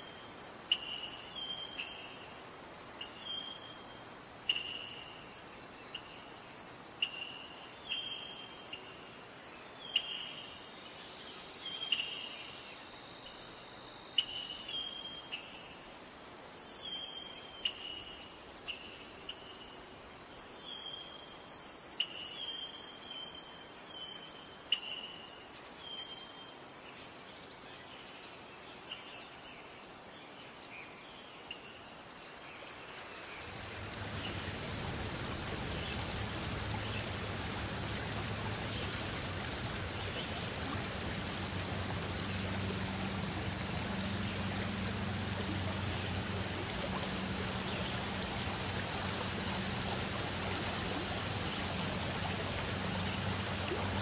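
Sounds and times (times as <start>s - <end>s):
chorus of crickets: 0.0s - 54.0s.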